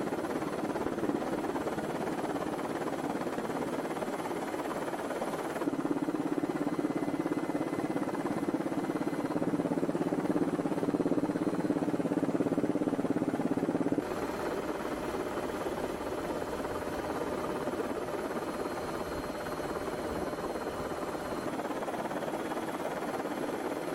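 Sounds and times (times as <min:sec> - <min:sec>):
helicopter engine and rotor: 0:00.0 - 0:23.9.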